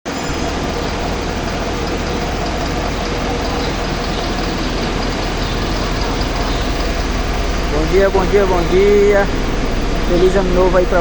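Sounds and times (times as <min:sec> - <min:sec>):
air-conditioner fan whirring: 0:00.1 - 0:11.0
faint steady tone: 0:00.1 - 0:11.0.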